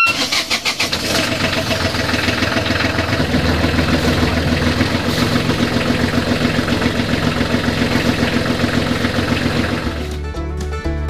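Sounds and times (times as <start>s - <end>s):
diesel engine throbbing: 0.1s - 10.3s.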